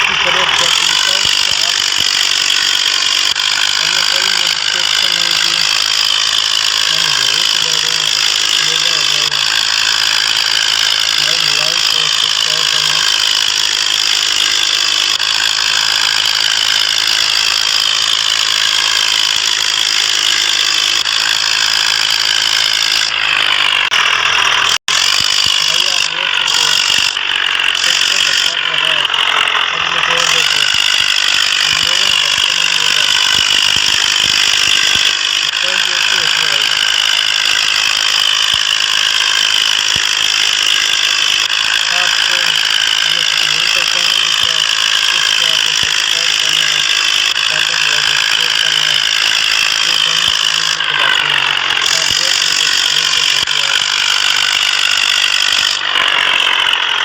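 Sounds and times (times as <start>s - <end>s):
tractor engine clattering: 0.0s - 57.0s.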